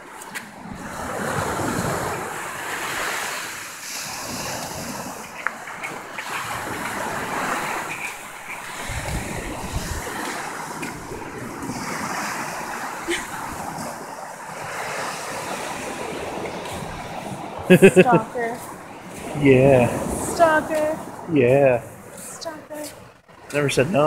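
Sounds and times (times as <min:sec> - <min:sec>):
ocean surf washing up beach: 0:00.0 - 0:24.0
wind buffeting microphone: 0:00.5 - 0:24.0.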